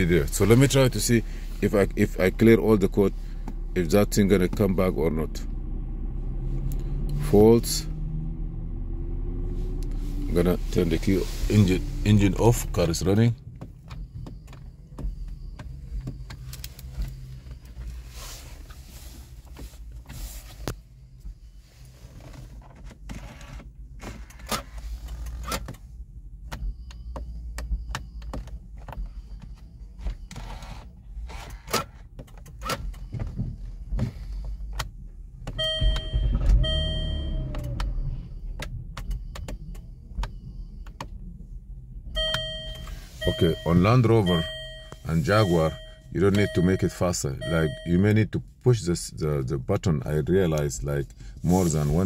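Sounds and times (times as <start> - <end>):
low steady rumble in car: 0.0 - 52.0.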